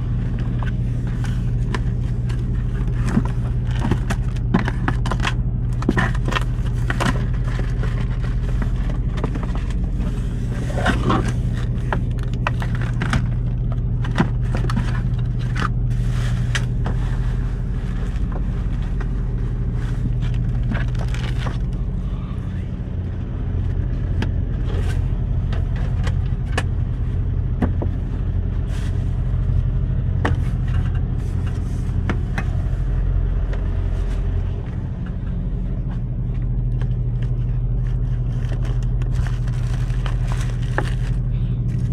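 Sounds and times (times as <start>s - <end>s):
rustles and knocks of handling: 0.0s - 22.0s, 22.8s - 41.9s
diesel engine idling: 0.0s - 41.9s.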